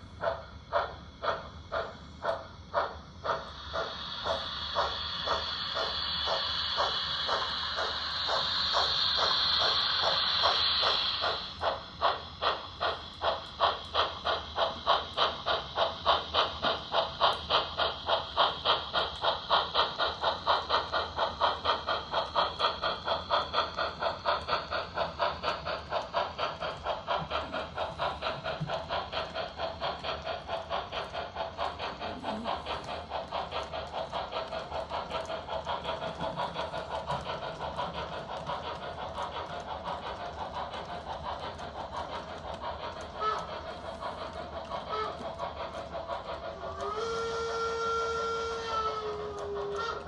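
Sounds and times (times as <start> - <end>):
steam hiss: 0.0 - 50.0
steam locomotive chuffing: 0.0 - 50.0.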